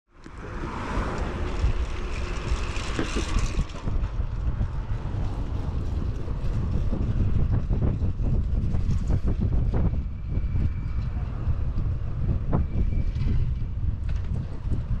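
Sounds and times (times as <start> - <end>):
road noise: 0.1 - 15.0
wind rushing over microphone: 0.1 - 15.0.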